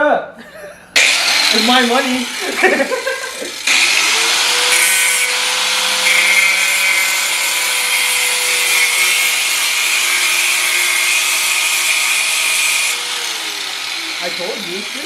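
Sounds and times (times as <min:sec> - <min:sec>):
handheld grinder grinding plastic: 0:01.0 - 0:15.0.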